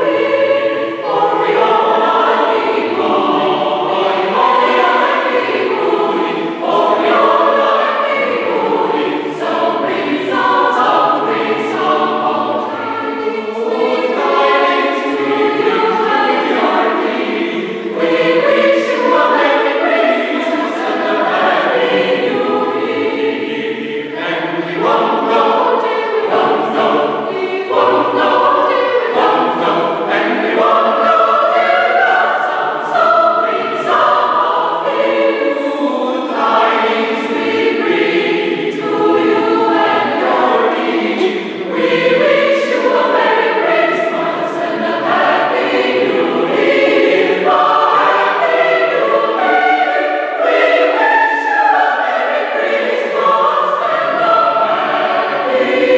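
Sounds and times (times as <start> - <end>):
mixed choir singing: 0.0 - 55.9.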